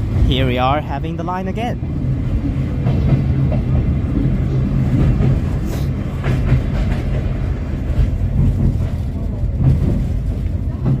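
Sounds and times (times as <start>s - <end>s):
train car rumble: 0.0s - 11.0s.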